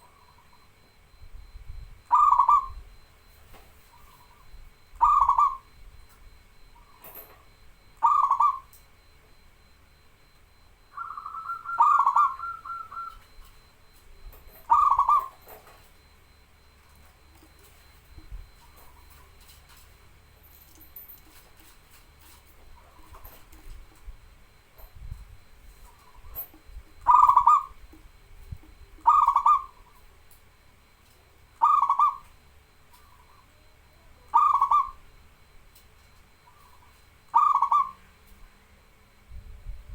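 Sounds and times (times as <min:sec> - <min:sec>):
dove cooing: 0:00.0 - 0:20.5, 0:21.3 - 0:24.9, 0:25.5 - 0:30.3, 0:31.3 - 0:38.7.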